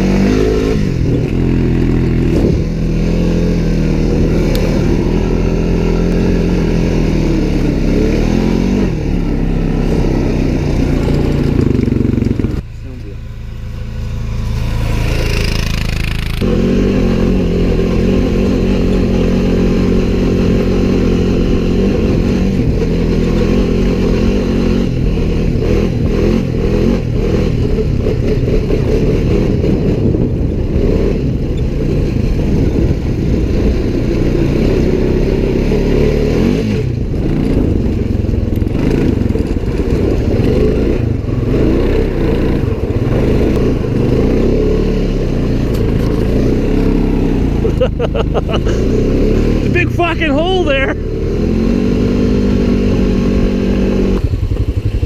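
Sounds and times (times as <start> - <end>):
off-road vehicle engine: 0.0 - 55.0.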